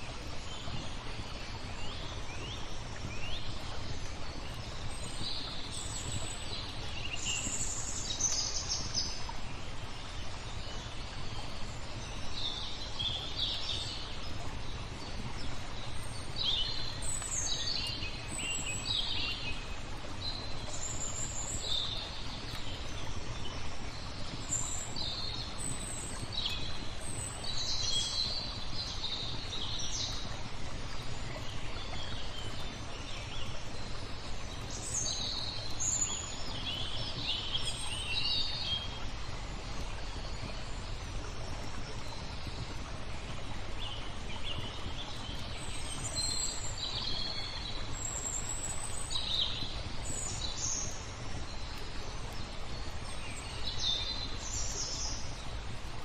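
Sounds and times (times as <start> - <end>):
flowing water: 0.0 - 56.0
small birds chirping and trilling: 0.1 - 55.7.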